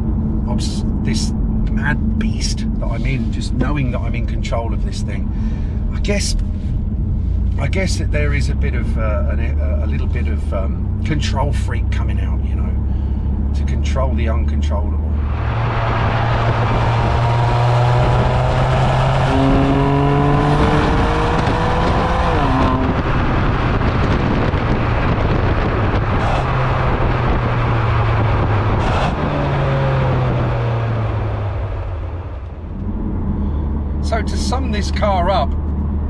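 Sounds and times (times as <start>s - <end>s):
car exhaust under acceleration: 0.0s - 36.0s
road noise: 0.0s - 36.0s.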